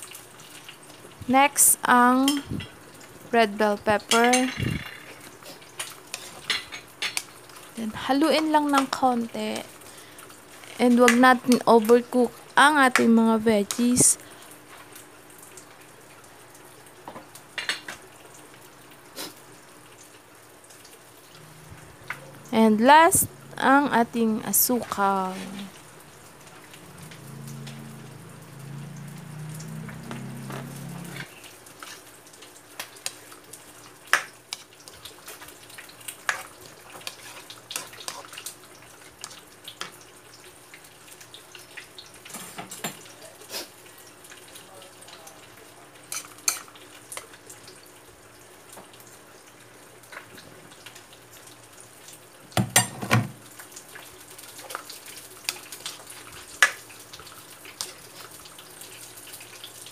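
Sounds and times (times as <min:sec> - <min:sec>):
sauce simmering with faint sizzle: 0:00.0 - 0:59.9.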